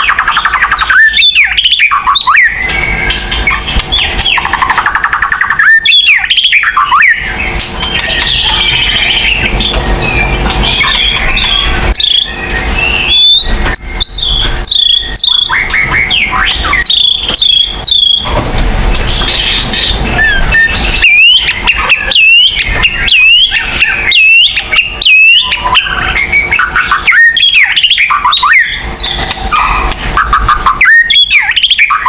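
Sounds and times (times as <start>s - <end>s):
bird singing whistled song: 0.0s - 18.3s, 19.1s - 32.0s.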